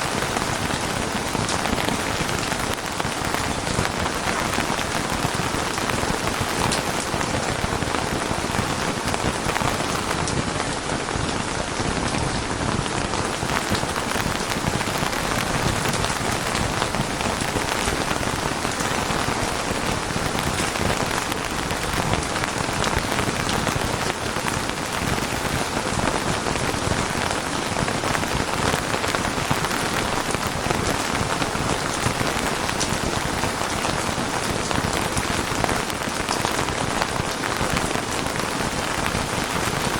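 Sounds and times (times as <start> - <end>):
raindrops ticking: 0.0 - 10.4, 13.2 - 39.9
steady rain hissing: 0.0 - 39.9.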